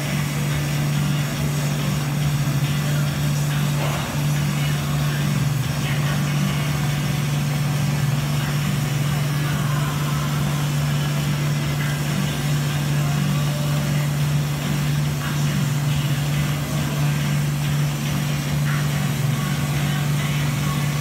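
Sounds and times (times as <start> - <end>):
low machine hum: 0.0 - 21.0
welding arc burning: 0.0 - 21.0.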